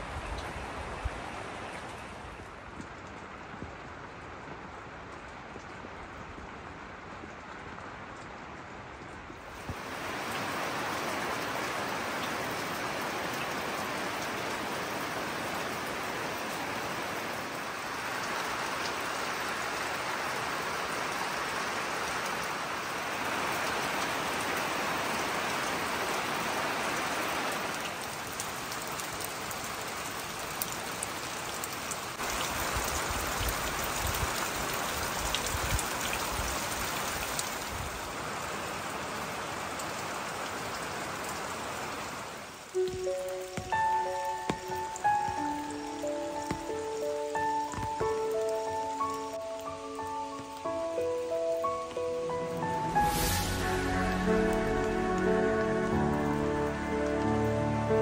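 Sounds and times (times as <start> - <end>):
rain falling on roof: 0.0 - 58.0.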